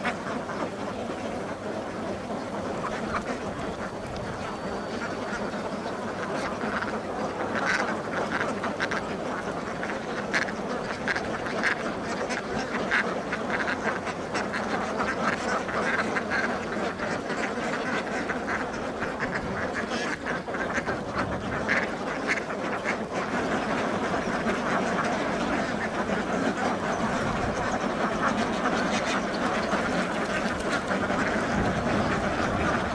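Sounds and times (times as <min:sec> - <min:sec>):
ducks quacking: 0:00.0 - 0:32.9.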